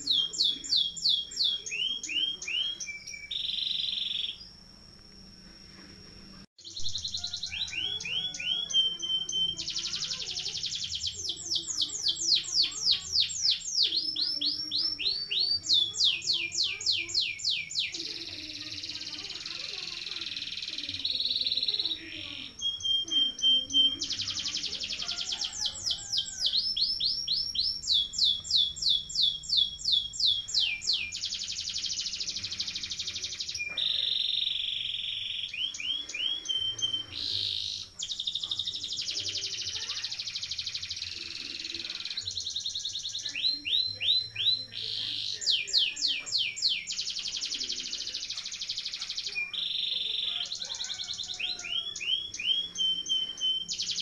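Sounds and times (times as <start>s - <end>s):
canary singing: 0.0s - 5.3s, 6.6s - 54.0s.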